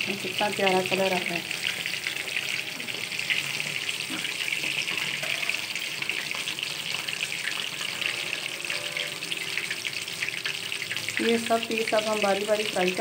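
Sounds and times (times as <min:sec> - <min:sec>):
fish deep-frying in sizzling oil: 0:00.0 - 0:13.0.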